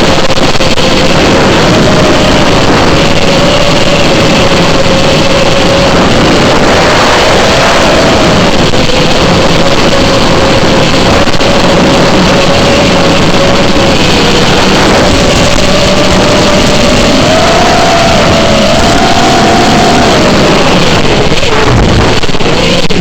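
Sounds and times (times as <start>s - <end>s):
quadcopter motors whirring: 0.0s - 23.0s
wind rushing over microphone: 0.0s - 23.0s.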